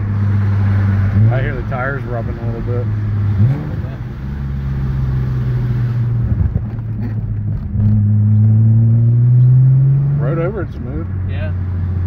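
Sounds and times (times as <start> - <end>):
car engine accelerating: 0.0 - 12.0
road noise inside car: 0.0 - 12.0.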